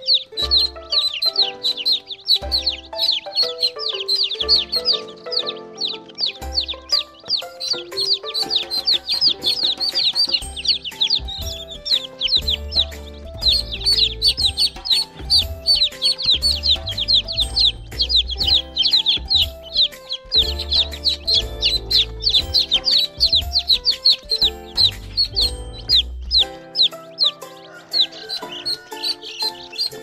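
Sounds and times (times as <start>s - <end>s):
baby chicks peeping: 0.0s - 30.0s
background music with bass: 0.0s - 30.0s.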